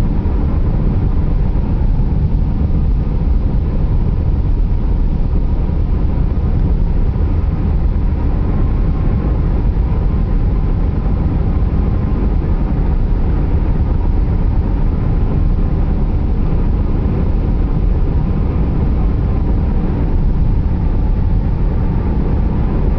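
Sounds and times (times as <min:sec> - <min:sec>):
car driving on highway: 0:00.0 - 0:22.9.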